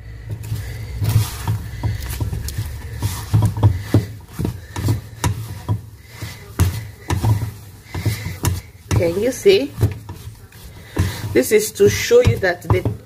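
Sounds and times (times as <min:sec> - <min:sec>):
spatula thudding and scraping in pan: 0:00.2 - 0:13.0.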